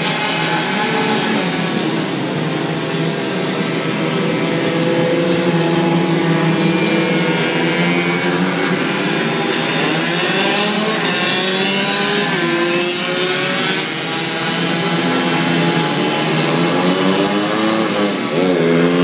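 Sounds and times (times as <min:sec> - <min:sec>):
moped engines revving: 0:00.0 - 0:19.0.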